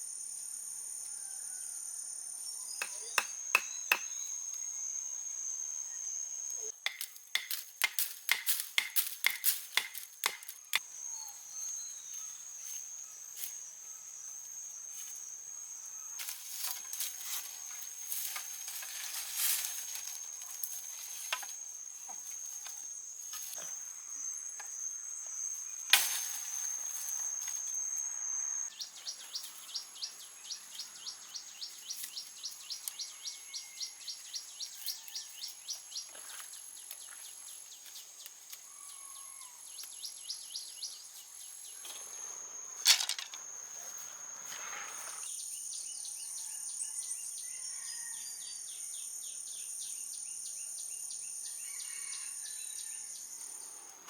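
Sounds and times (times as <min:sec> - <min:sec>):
insects chirping rapidly: 0:00.0 - 0:47.2
insects trilling: 0:00.0 - 0:54.0.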